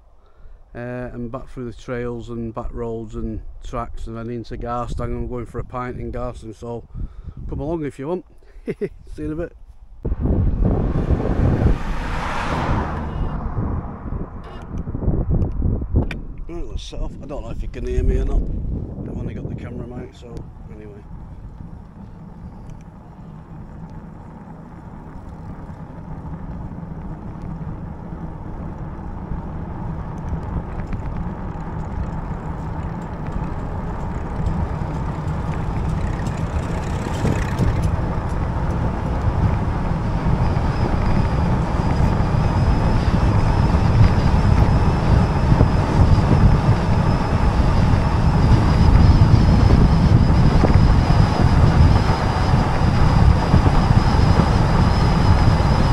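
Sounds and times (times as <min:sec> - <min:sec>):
wind rushing over microphone: 0:00.0 - 0:08.2, 0:08.9 - 0:55.9
tyres rumbling on tarmac: 0:10.0 - 0:16.2, 0:16.8 - 0:55.9.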